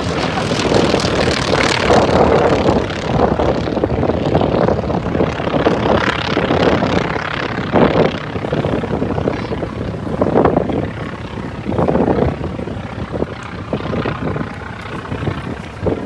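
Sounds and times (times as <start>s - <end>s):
propeller airplane engine drone: 0.0s - 16.0s.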